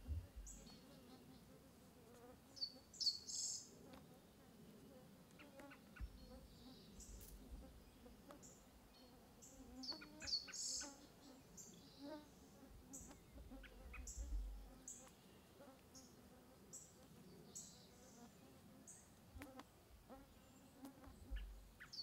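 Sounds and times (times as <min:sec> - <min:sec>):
small birds chirping: 0:00.0 - 0:01.6, 0:02.2 - 0:22.0
faint buzz of insects: 0:00.0 - 0:22.0.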